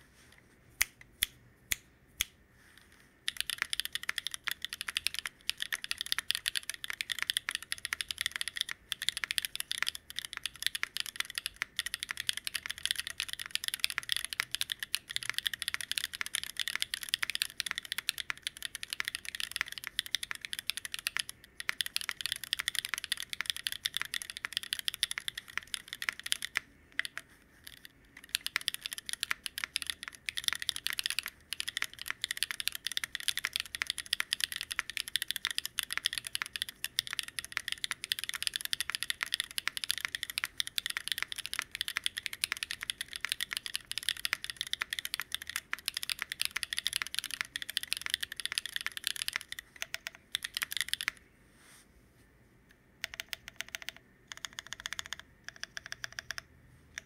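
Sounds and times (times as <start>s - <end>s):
mechanical keyboard typing: 3.3s - 51.2s, 53.0s - 57.0s.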